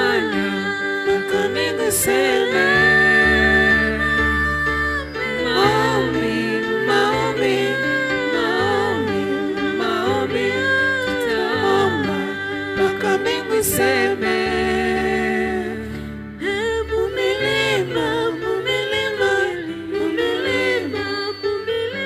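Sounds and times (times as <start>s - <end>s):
voices singing together: 0.0s - 22.0s.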